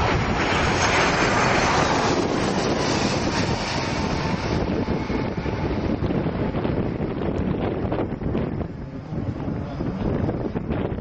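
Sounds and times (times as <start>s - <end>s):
jet engines at takeoff: 0.0s - 11.0s
wind buffeting microphone: 0.0s - 11.0s.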